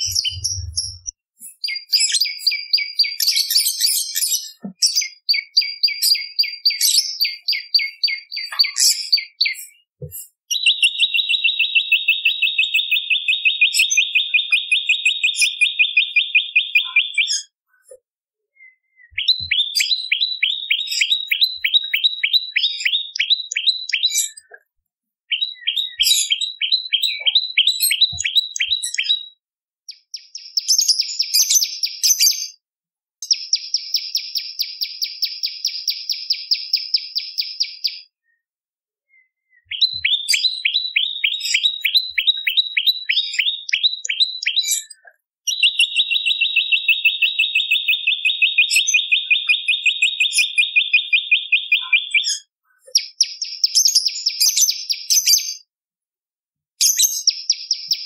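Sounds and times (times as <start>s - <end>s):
bird singing high notes and trills: 0.0s - 17.6s, 18.5s - 24.5s, 25.3s - 32.6s, 39.1s - 55.7s.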